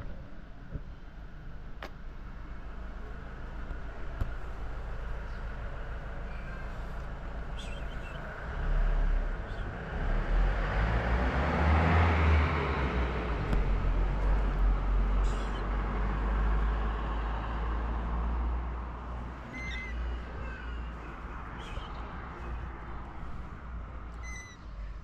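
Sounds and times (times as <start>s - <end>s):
vehicle passing with road noise: 0.0s - 25.0s.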